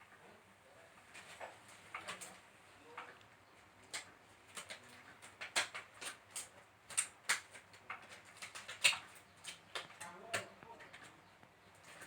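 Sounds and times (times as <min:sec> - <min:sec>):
clicks and rustles of handling: 0:01.0 - 0:12.0.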